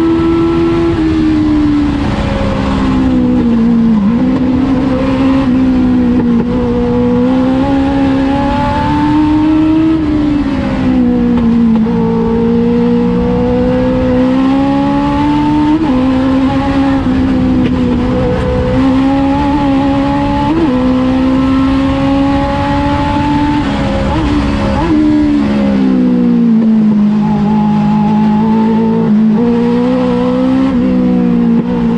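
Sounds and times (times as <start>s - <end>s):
motorcycle engine at high revs: 0.0s - 31.9s.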